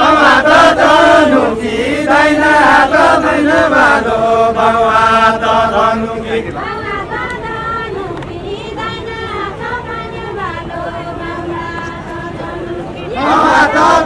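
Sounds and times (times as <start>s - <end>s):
voices singing a folk chant: 0.0s - 14.0s.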